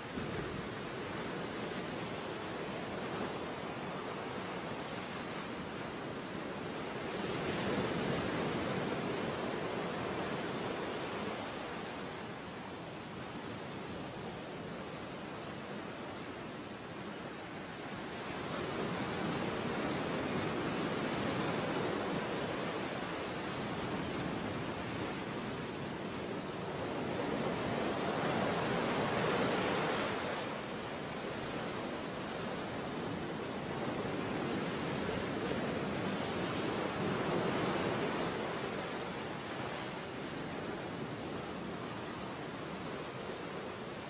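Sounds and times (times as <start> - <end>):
sea waves breaking on shore: 0.0 - 44.0.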